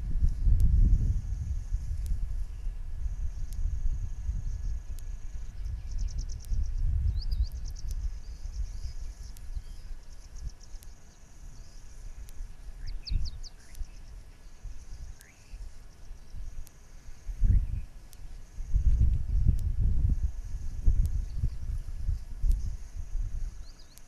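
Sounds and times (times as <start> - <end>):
gusty wind rumble: 0.0 - 23.9
insect trilling and chirping: 0.0 - 24.0
bird chirps: 2.4 - 19.4, 20.8 - 24.0.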